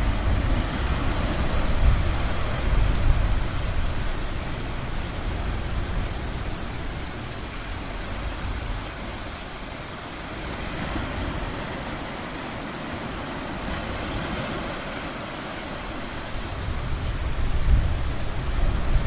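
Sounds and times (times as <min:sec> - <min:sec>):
ocean surf hiss: 0:00.0 - 0:19.0.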